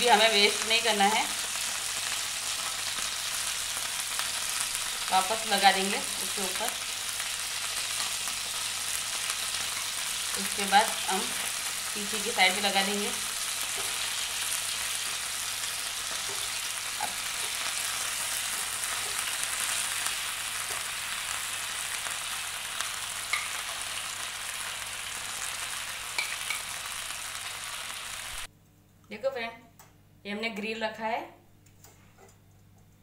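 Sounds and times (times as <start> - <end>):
chicken sizzling in frying pan: 0.0 - 28.5.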